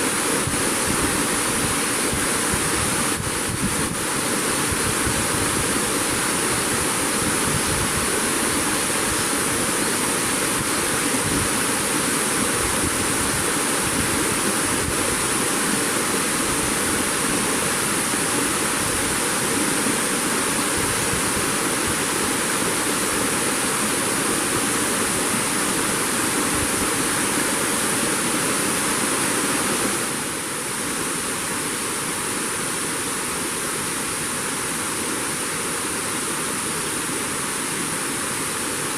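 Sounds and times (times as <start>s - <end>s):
high-pitched hiss: 0.0s - 38.9s
steady rushing noise: 0.0s - 38.9s.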